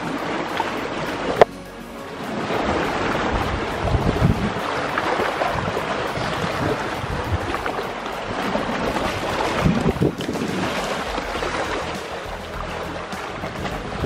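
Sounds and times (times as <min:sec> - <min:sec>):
waves lapping against rock: 0:00.0 - 0:01.5, 0:02.1 - 0:14.0
wind buffeting microphone: 0:02.4 - 0:14.0.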